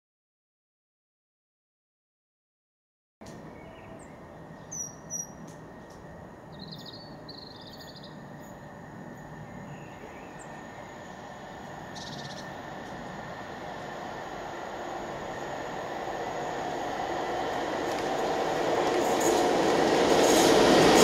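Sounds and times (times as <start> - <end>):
distant train rumble: 3.2 - 21.0
songbirds chirping and trilling: 3.2 - 21.0.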